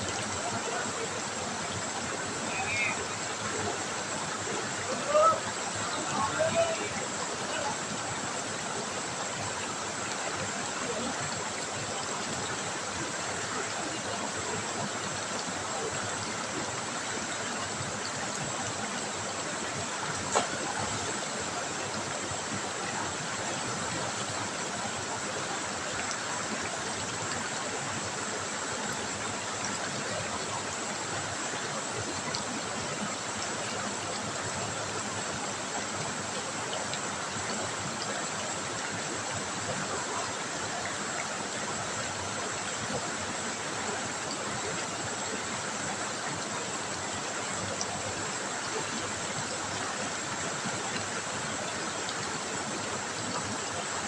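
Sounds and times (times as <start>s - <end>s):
river water trickling: 0.0s - 54.0s.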